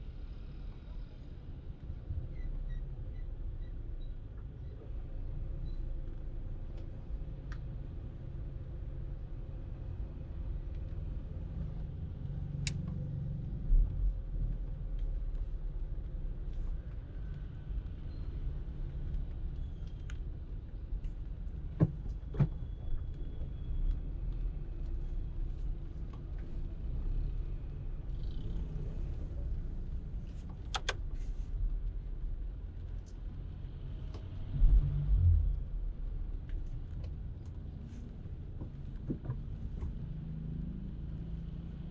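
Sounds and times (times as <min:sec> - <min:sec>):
car engine and tyre rumble: 0:00.0 - 0:41.9.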